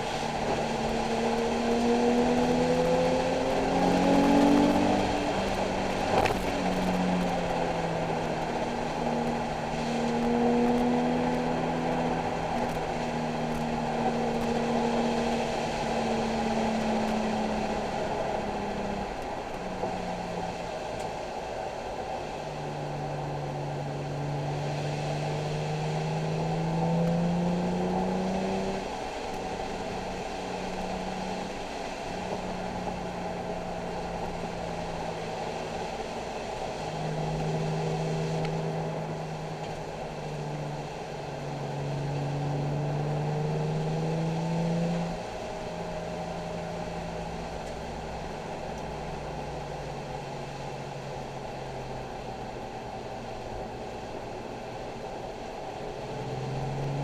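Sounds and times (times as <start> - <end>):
car engine revving and accelerating: 0.0 - 57.0.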